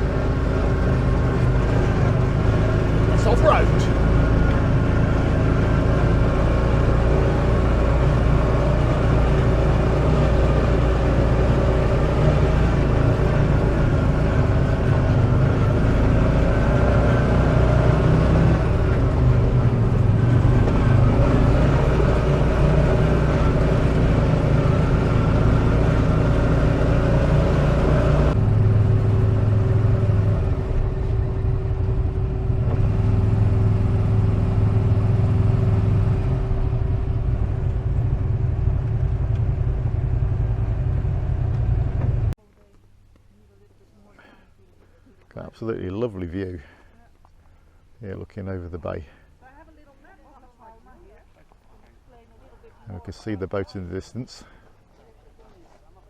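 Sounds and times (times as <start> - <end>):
buggy engine running: 0.0 - 56.0.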